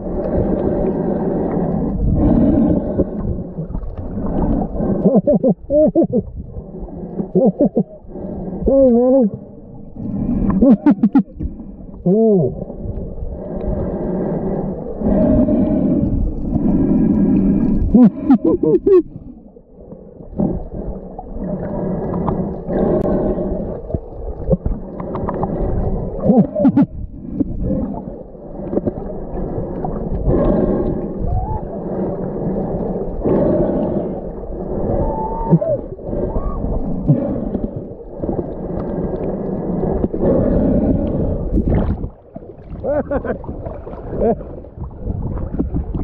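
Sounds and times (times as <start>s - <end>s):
humpback whale song underwater: 0.0s - 46.0s
low water rumble: 0.0s - 46.0s.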